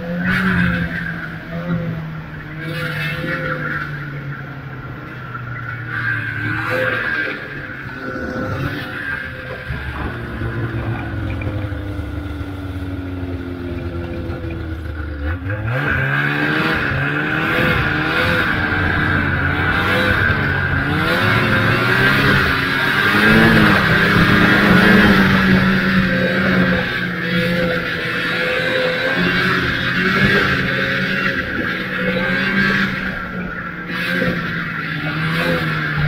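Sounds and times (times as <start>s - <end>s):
snowmobile engine revving: 0.0s - 36.0s.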